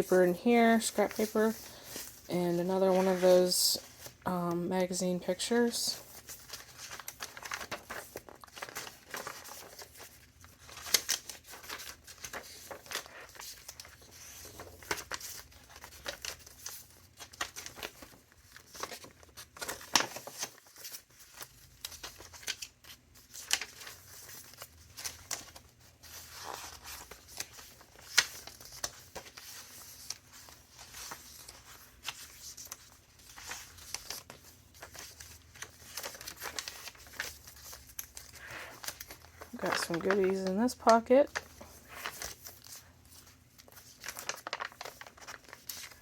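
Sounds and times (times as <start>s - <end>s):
paper pages rustling: 0.0s - 46.0s.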